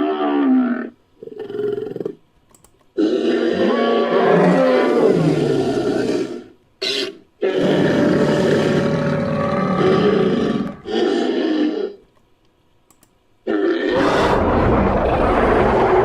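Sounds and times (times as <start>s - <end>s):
creature roaring: 0.0s - 2.2s, 3.0s - 12.0s, 13.4s - 16.0s.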